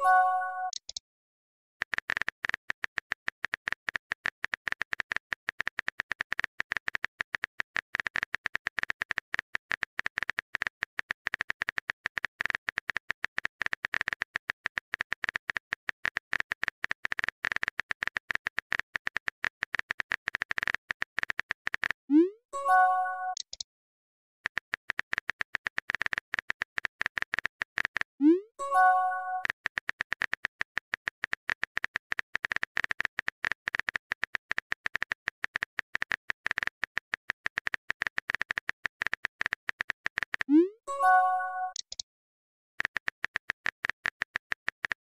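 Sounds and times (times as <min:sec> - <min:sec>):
phone keyboard typing clicks: 0:01.8 - 0:22.1, 0:22.7 - 0:23.6, 0:24.4 - 0:42.0, 0:42.8 - 0:45.0.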